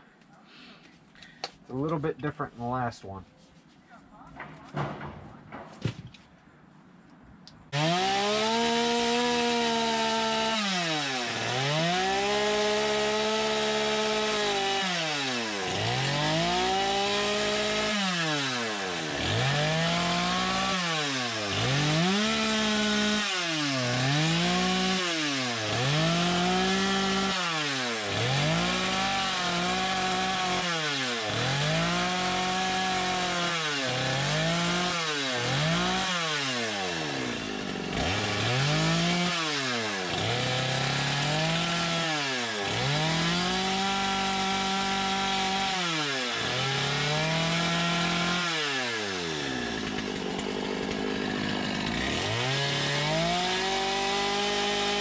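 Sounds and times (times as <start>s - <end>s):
chainsaw cutting wood: 7.7s - 55.0s.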